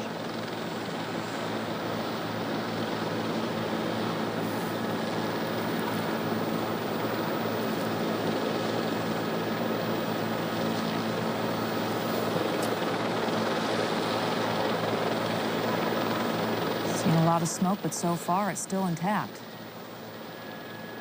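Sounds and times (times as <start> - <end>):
helicopter engine and rotors: 0.0 - 21.0.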